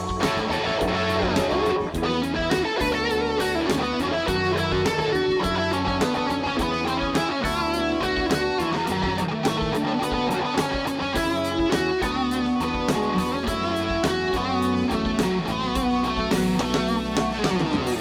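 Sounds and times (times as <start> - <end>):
bass guitar: 0.0 - 18.0
drum beat: 0.0 - 18.0.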